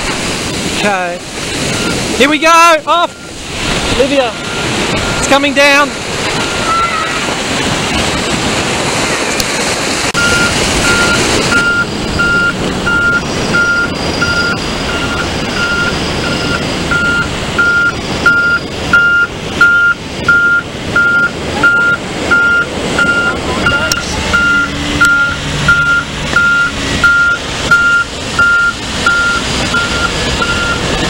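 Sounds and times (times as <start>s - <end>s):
surf washing: 0.0s - 31.0s
dump truck reversing: 1.4s - 2.2s, 2.9s - 7.9s, 10.1s - 31.0s
truck reversing alarm beeping: 1.5s - 7.0s, 10.2s - 31.0s.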